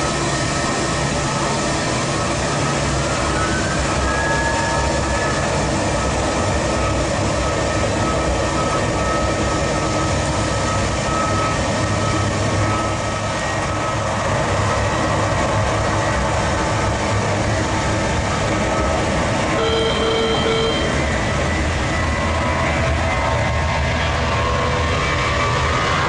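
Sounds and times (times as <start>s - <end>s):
jet engines whining: 0.0s - 26.0s
rising engine whine: 0.0s - 26.0s.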